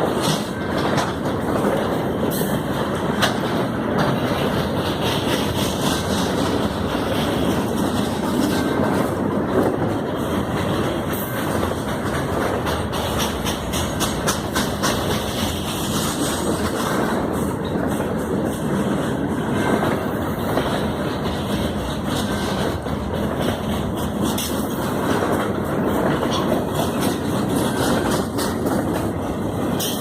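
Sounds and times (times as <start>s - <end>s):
wheel and rail rush: 0.0s - 30.0s
wheels clacking over rail joints: 0.0s - 30.0s.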